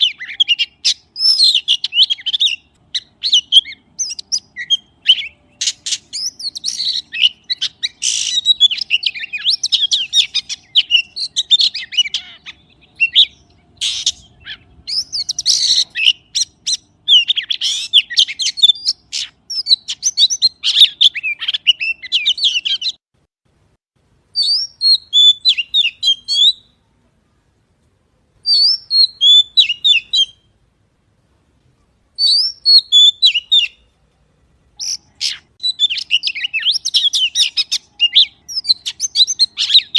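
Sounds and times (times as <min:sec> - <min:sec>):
magpie-robin singing: 0:00.0 - 0:23.0, 0:24.3 - 0:26.8, 0:28.4 - 0:30.5, 0:32.2 - 0:33.9, 0:34.8 - 0:39.9.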